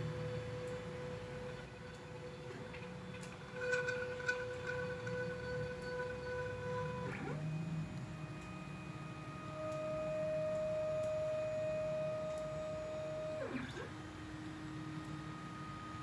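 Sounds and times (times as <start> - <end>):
stepper motor whine: 0.0 - 16.0.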